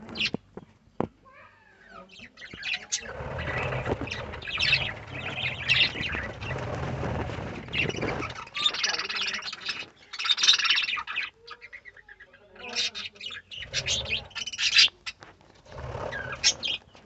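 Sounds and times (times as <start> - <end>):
budgerigars chirping and chattering: 0.0 - 0.4, 1.8 - 17.0.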